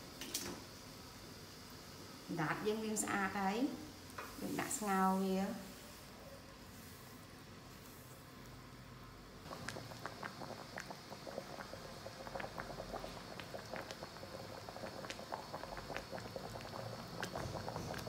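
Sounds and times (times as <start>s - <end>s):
liquid bubbling in a pan: 0.0s - 18.0s.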